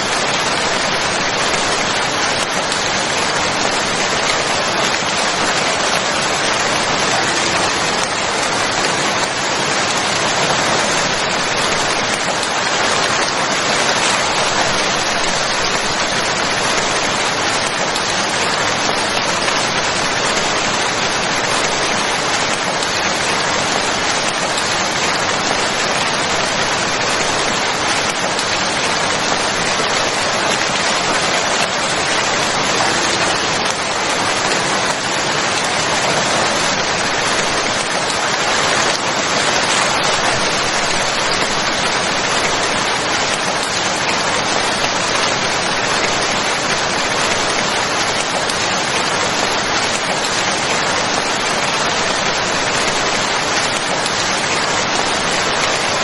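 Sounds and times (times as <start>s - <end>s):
dense rain pattering: 0.0s - 56.0s.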